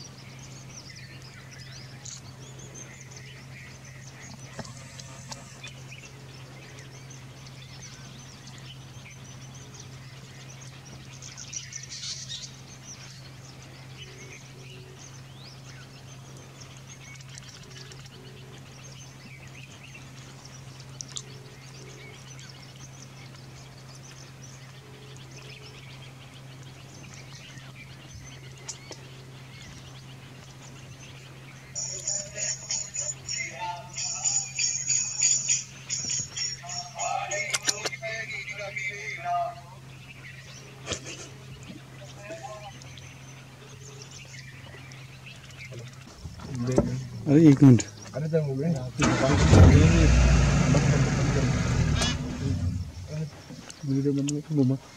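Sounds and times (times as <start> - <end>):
birds chirping: 0.0 - 54.9
steady low hum: 0.0 - 54.9.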